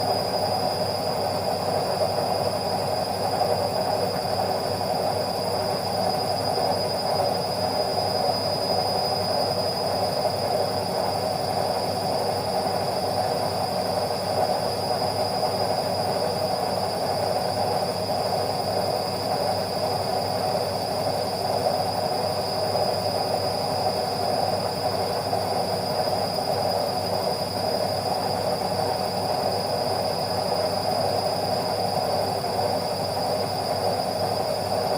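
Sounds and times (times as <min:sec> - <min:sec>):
washing machine hum and rumble: 0:00.0 - 0:34.9.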